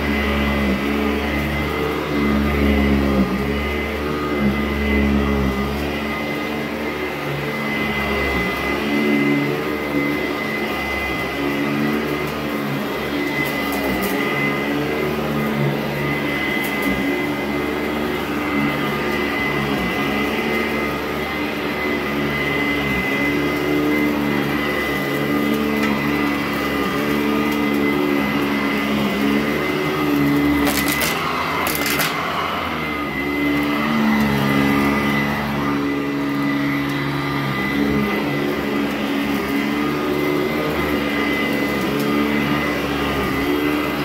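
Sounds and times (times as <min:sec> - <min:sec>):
upright vacuum on carpet: 0:00.0 - 0:44.0.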